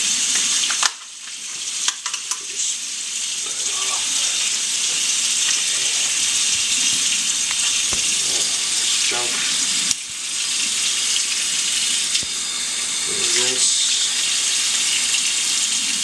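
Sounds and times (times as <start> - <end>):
faucet running into sink: 0.0 - 16.0.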